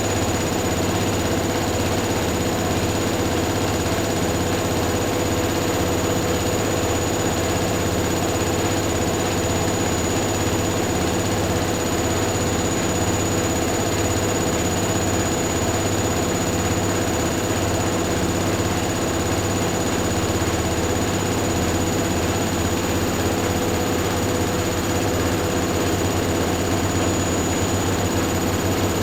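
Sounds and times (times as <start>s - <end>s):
washing machines spinning: 0.0s - 29.0s.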